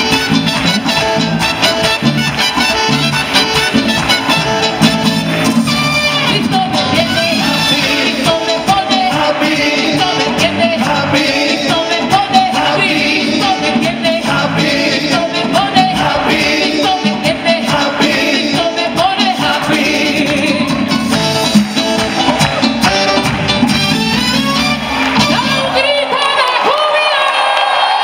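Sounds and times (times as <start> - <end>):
amplified musical accompaniment: 0.0 - 25.9.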